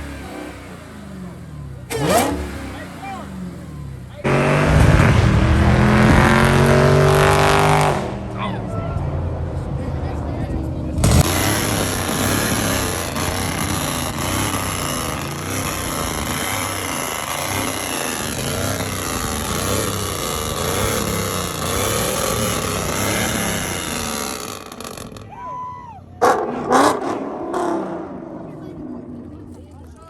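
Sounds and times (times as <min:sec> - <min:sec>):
loud vehicle engine: 0:00.0 - 0:30.0.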